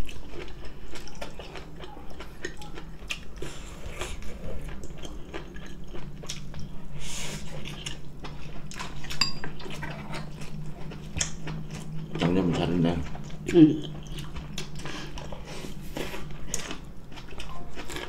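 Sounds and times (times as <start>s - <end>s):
people chewing and crunching food: 0.0s - 18.0s
steady low hum: 0.0s - 18.0s.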